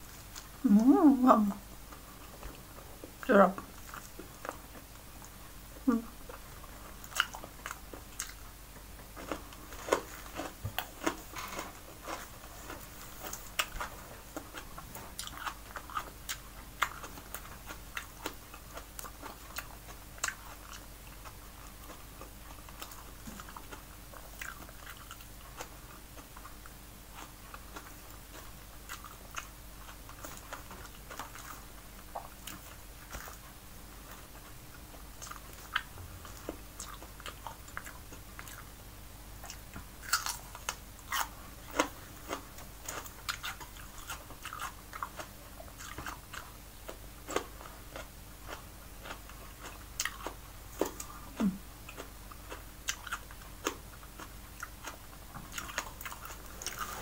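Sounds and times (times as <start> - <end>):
person chewing and lip smacking: 0.2 - 11.4, 12.0 - 38.7, 39.4 - 57.0.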